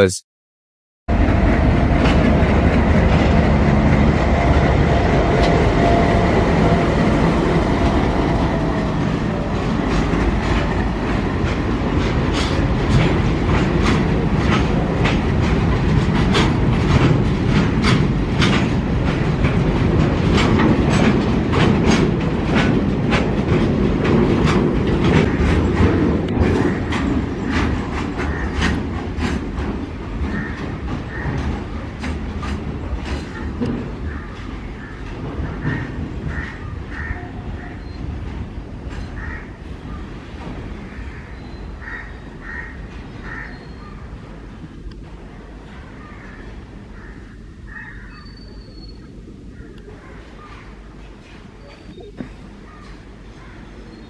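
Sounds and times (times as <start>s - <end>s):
diesel locomotive engine rumbling: 1.1s - 54.0s
train wheels clickety-clack: 1.2s - 46.9s, 49.8s - 54.0s.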